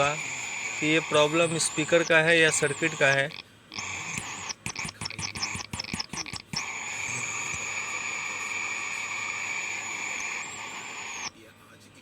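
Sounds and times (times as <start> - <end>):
subwoofer crackling hiss: 0.0 - 11.3.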